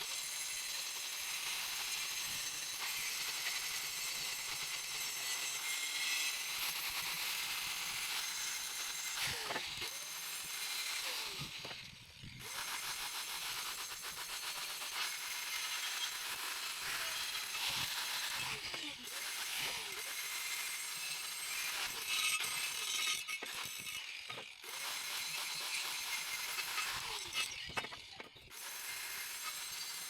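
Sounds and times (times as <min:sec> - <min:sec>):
angle grinder grinding steel: 0:00.1 - 0:30.0.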